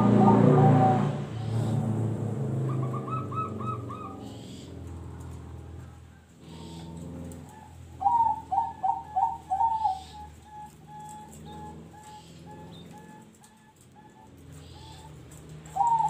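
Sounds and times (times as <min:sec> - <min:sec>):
dove cooing: 0:00.0 - 0:05.0, 0:06.4 - 0:16.0.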